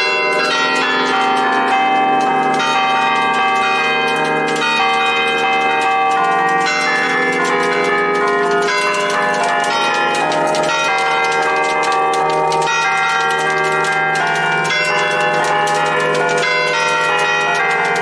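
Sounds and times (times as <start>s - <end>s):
church bells pealing: 0.0s - 18.0s.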